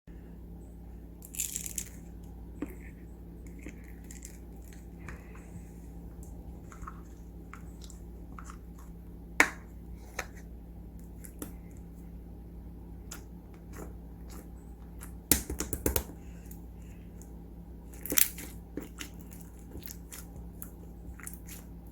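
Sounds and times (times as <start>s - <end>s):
steady low hum: 0.1s - 21.9s.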